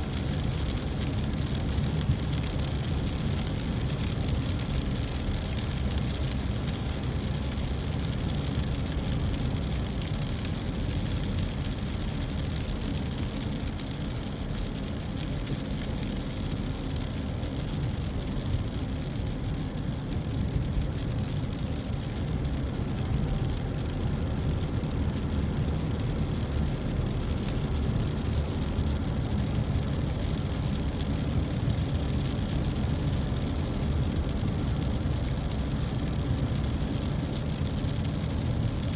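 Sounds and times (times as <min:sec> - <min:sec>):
car engine: 0:00.0 - 0:38.9
tyres on wet road: 0:00.0 - 0:38.9.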